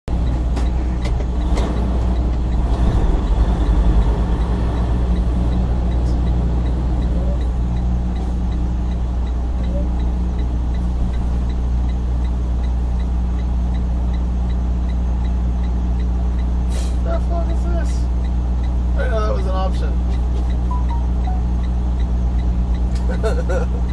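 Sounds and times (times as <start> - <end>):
diesel truck engine humming: 0.1 - 23.9
light steady ticking: 0.1 - 23.9.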